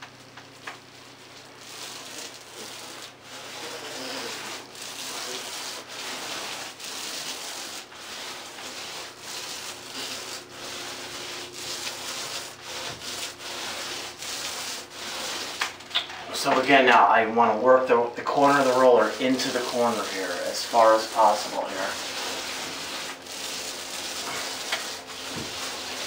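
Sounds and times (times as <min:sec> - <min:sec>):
paint roller rubbing on ceiling: 0:00.9 - 0:26.0.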